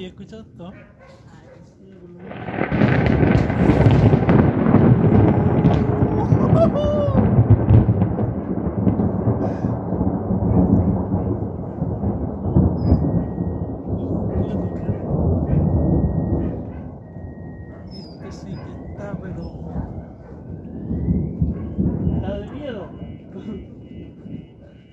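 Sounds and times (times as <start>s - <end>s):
thunder rumbling: 2.2s - 24.9s.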